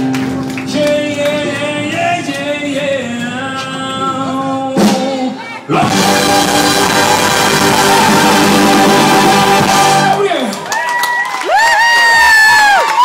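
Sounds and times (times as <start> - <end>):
big band horn section playing: 0.0 - 10.6.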